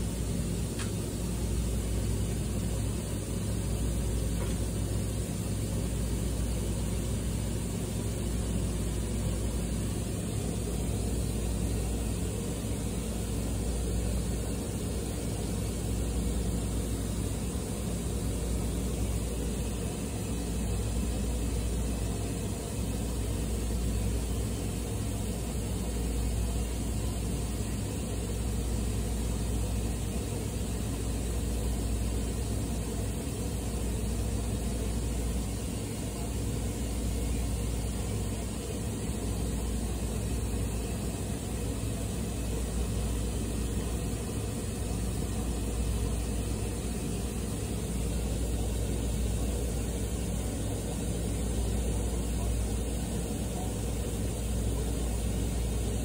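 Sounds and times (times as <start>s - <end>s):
low mechanical rumble and hum: 0.0s - 56.0s.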